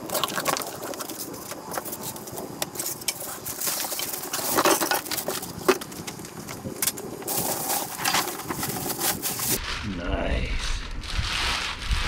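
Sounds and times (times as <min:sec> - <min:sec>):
objects being handled: 0:00.0 - 0:09.7.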